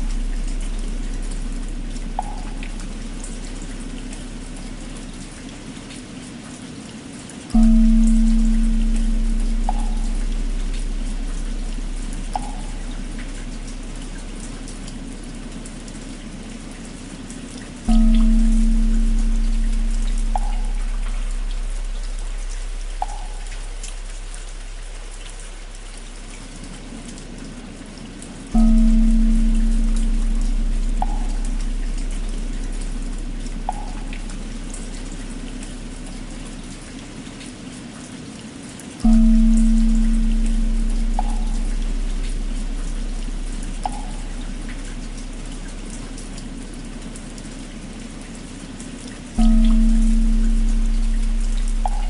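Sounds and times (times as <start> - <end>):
deep hum of temple bell: 0.0 - 5.5, 7.5 - 26.8, 28.5 - 36.8, 39.0 - 48.5, 49.3 - 52.0
steady rain: 0.0 - 52.0.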